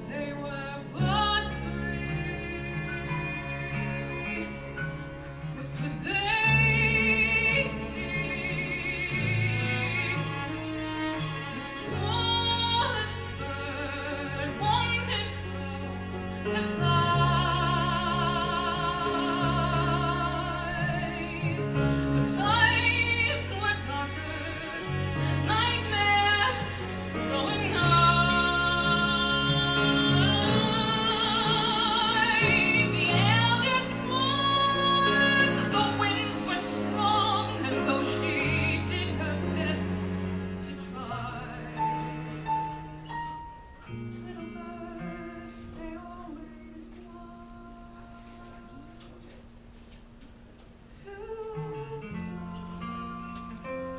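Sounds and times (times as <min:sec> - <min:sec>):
woman singing with vibrato: 0:00.0 - 0:43.2, 0:43.9 - 0:49.4, 0:51.0 - 0:53.9
piano strings and band accompaniment: 0:00.0 - 0:47.4.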